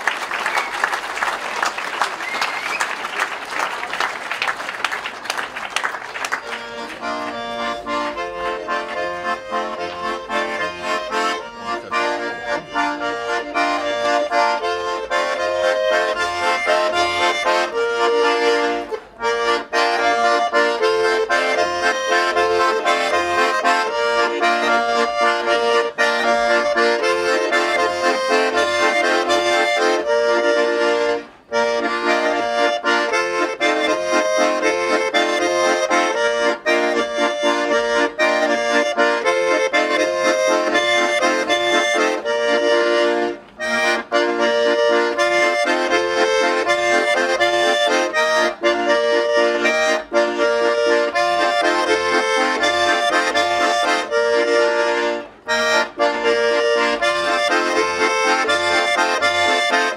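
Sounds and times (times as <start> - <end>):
button accordions playing folk tune: 0.0 - 59.9.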